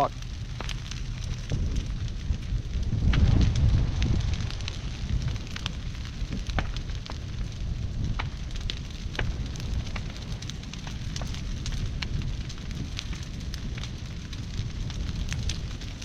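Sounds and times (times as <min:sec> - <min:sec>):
brush fire crackling: 0:00.0 - 0:16.0
low steady rumble: 0:00.0 - 0:16.0
sharp popping of fire: 0:00.0 - 0:16.0.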